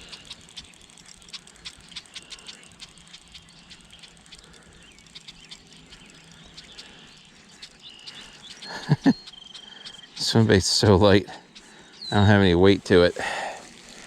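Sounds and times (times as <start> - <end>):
birds calling: 0.0 - 14.0
fishing reel clicking: 0.0 - 14.0
insects calling: 0.0 - 14.0.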